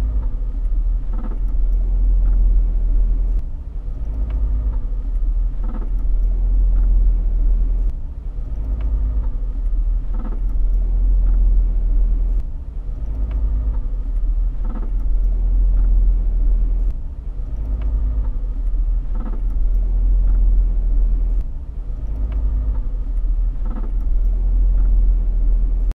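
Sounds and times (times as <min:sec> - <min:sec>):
vehicle low rumble: 0:00.0 - 0:25.9.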